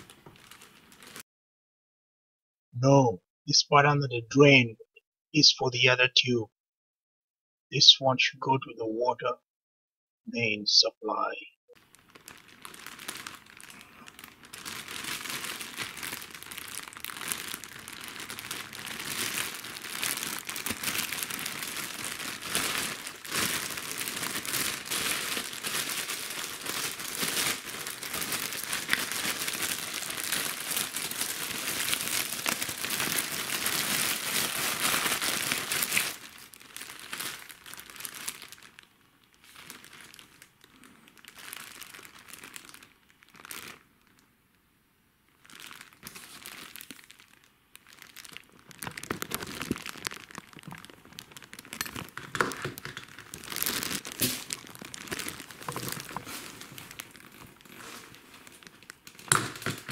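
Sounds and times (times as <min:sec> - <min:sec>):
plastic bag crinkling: 0:00.0 - 0:01.2, 0:11.8 - 0:44.2, 0:45.3 - 0:59.9.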